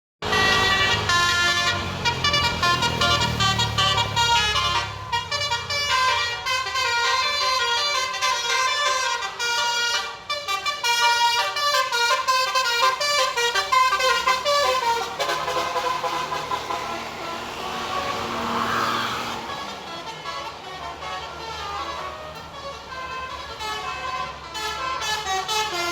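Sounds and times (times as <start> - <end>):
musical air horn playing a tune: 0.2 - 25.9.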